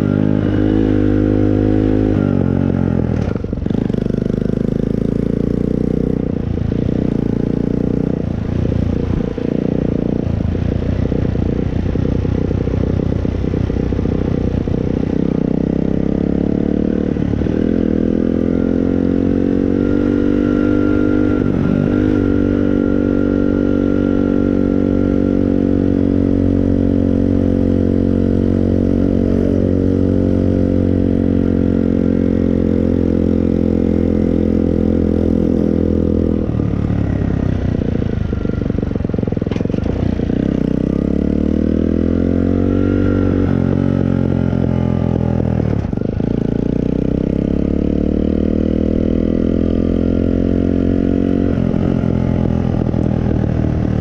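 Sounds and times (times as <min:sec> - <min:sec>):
moped engine revving: 0:00.0 - 0:54.0.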